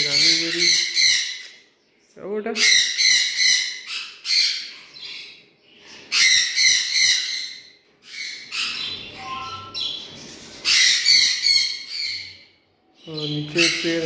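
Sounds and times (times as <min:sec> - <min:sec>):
parrots calling shrilly: 0:00.0 - 0:01.5, 0:02.6 - 0:12.5, 0:13.5 - 0:14.0.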